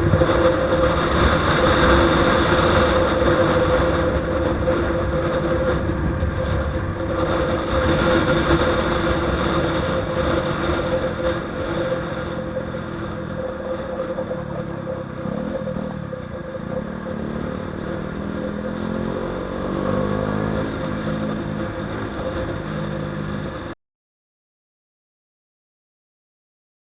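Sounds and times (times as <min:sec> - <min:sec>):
motorcycle engine running hard: 0:00.0 - 0:23.8
wind noise on microphone: 0:00.0 - 0:23.8.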